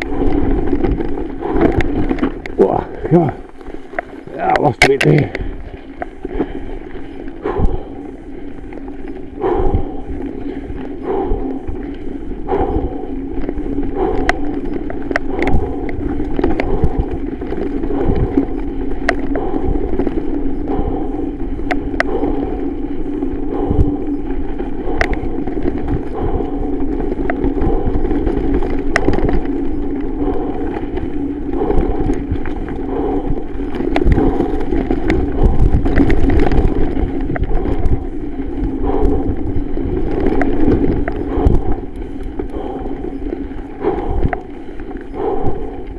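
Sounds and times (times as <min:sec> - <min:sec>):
bike rattling clicks and knocks: 0:00.0 - 0:45.9
tyre and trail rumble: 0:00.0 - 0:45.9.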